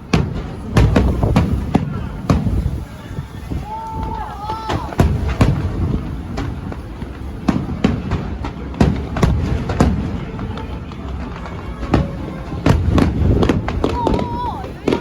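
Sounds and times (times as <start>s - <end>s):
fireworks bursting with sharp bangs: 0.0s - 15.0s.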